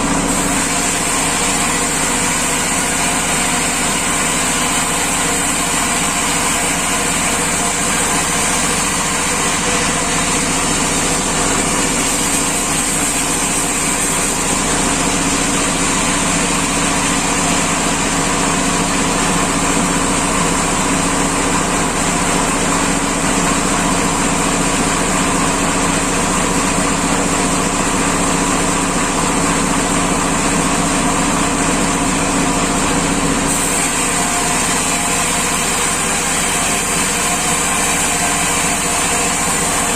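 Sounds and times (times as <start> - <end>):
high machine whine: 0.0 - 39.9
sawmill machinery drone: 0.0 - 39.9.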